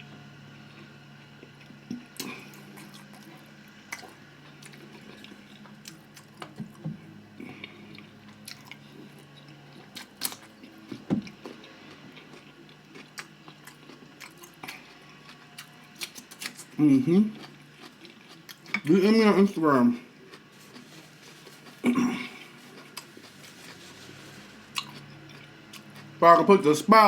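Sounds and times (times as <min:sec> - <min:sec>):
person chewing food: 0:00.7 - 0:06.6, 0:07.4 - 0:26.2.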